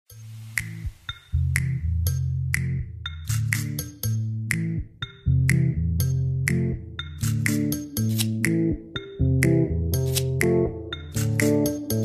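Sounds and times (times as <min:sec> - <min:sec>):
background music with bass line: 0:00.1 - 0:12.0.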